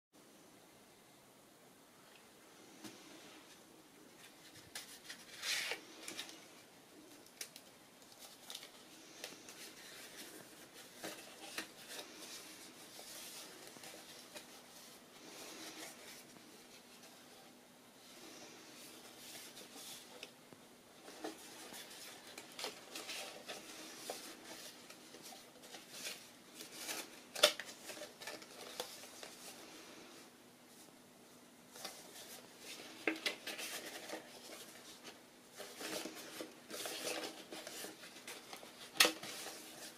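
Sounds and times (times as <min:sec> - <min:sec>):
paper rustling and crinkling: 0:03.5 - 0:20.4, 0:21.0 - 0:30.9, 0:31.7 - 0:39.9.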